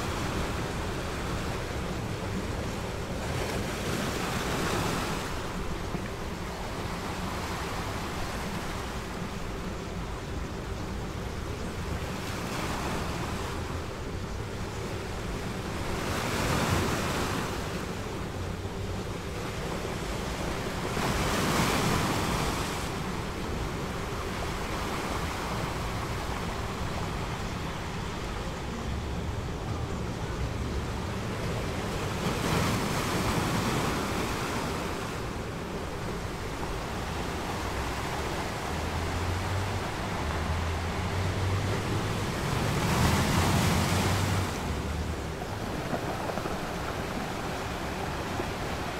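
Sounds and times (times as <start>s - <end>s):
ocean waves on shore: 0.0s - 48.9s.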